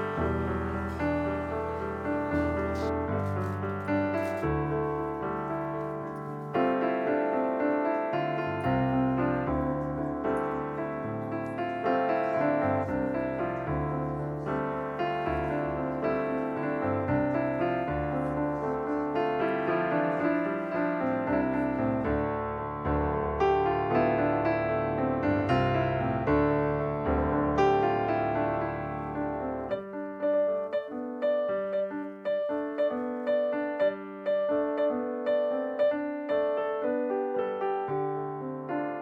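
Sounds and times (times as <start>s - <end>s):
piano playing: 0.0s - 39.0s.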